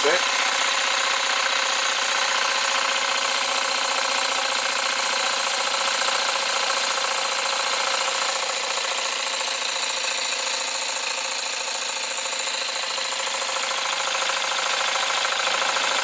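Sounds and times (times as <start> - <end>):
steam engine chuffing: 0.0 - 16.0.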